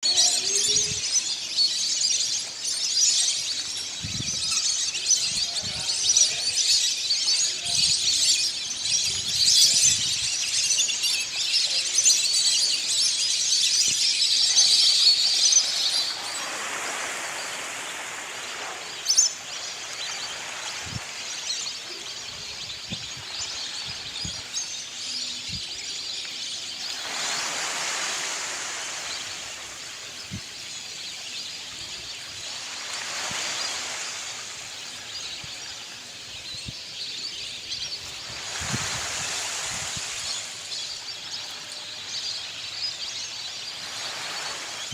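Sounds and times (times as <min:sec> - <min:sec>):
flock of birds chattering: 0:00.0 - 0:44.9.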